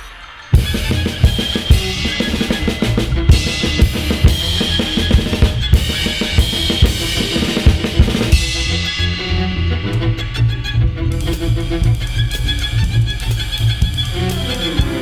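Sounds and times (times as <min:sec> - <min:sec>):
ensemble music: 0:00.0 - 0:15.0
drum kit beat: 0:00.5 - 0:15.0
bass notes: 0:00.6 - 0:15.0.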